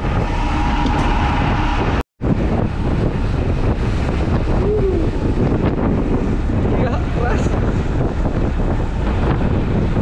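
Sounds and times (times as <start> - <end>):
fishing boat engine running: 0.0 - 10.0
waves: 0.0 - 10.0
wind buffeting microphone: 0.0 - 10.0.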